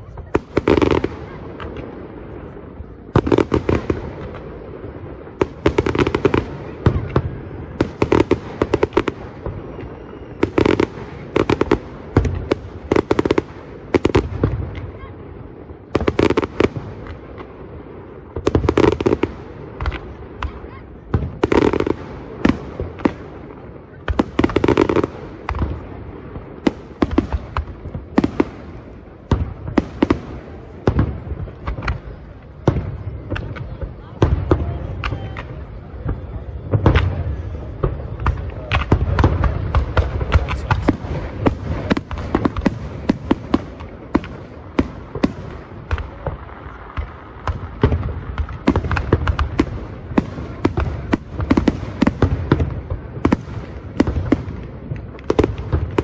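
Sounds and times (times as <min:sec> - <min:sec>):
fireworks bursting with sharp bangs: 0:00.0 - 0:56.0.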